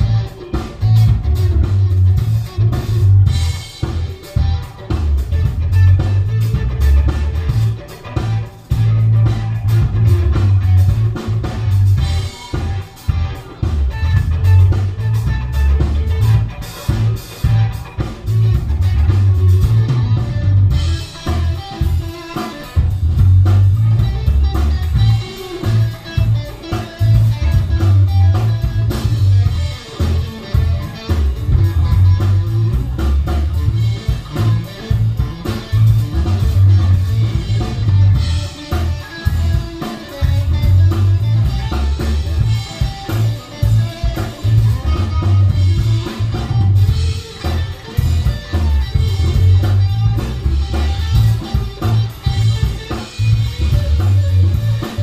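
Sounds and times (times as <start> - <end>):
heavy bass line: 0.0 - 55.0
live band playing: 0.0 - 55.0.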